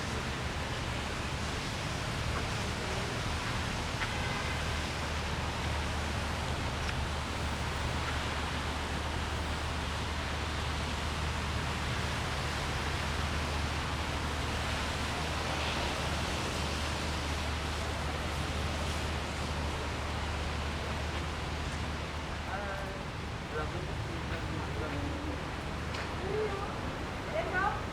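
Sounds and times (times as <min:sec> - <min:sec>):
rain: 0:00.0 - 0:27.9
traffic on wet road: 0:00.0 - 0:27.9.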